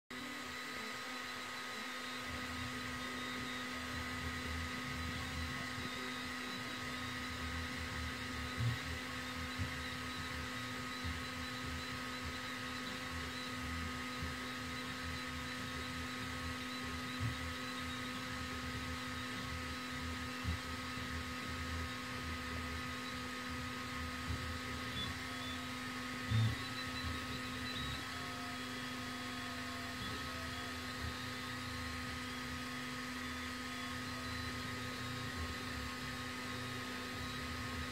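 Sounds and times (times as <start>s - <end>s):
laser engraver hum and whine: 0.1s - 37.9s
stepper motors buzzing: 0.1s - 37.9s.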